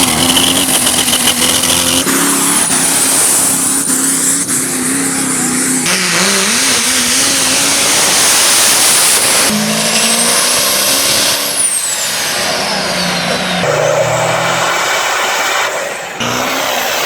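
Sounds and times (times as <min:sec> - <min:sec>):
diesel truck engines revving: 0:00.0 - 0:17.0.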